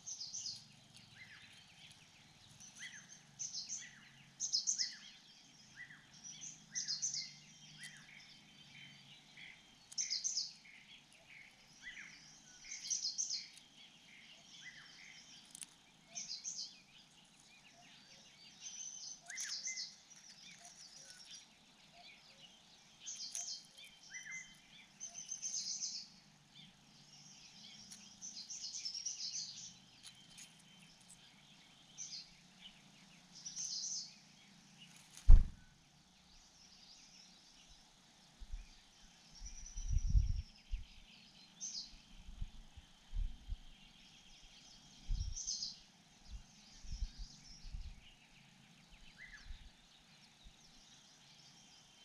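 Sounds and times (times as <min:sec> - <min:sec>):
faint steady background noise: 0:00.0 - 0:52.0
small birds chirping: 0:00.0 - 0:52.0.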